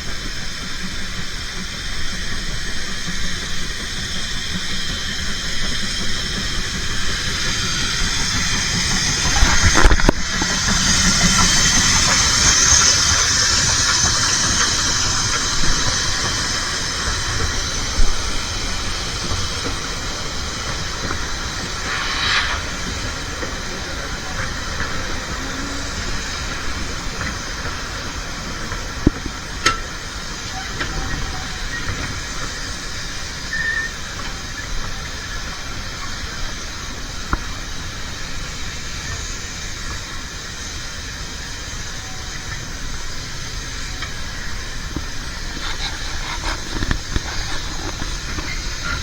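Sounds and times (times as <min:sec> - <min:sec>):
steam train hissing and rumbling: 0:00.0 - 0:49.0.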